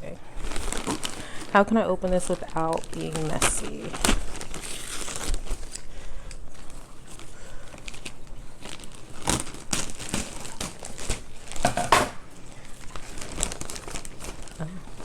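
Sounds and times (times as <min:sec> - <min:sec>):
packing material crinkling: 0:00.0 - 0:15.0.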